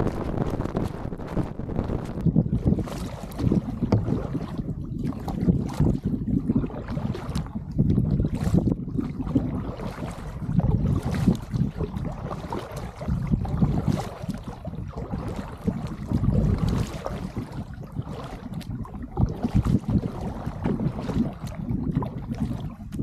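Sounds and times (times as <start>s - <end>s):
paddle splashing in water: 0.0s - 23.0s
wind buffeting microphone: 0.0s - 23.0s.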